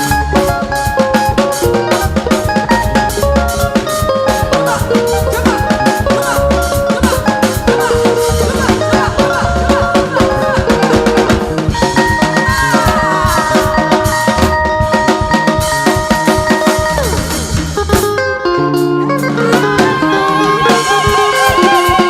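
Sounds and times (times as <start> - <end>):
drum kit beat: 0.0 - 22.0
upbeat praise band music: 0.0 - 22.0.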